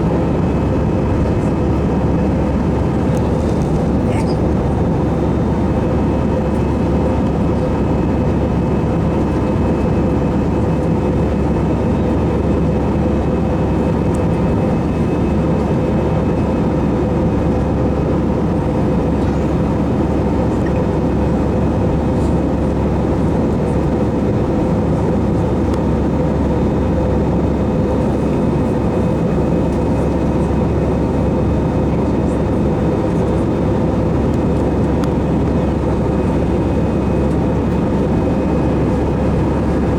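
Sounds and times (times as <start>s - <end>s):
airliner taking off: 0.0s - 39.9s.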